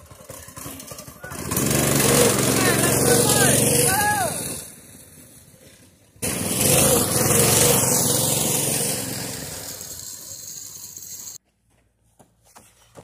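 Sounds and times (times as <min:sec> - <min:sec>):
go-kart driving over gravel: 0:00.0 - 0:11.4.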